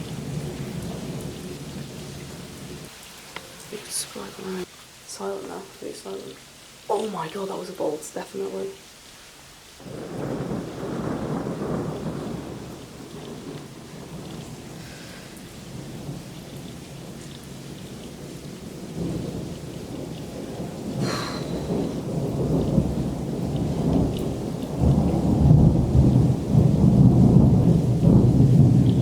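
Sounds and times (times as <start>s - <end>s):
thunder rumbling: 0.0s - 4.7s, 9.8s - 29.0s.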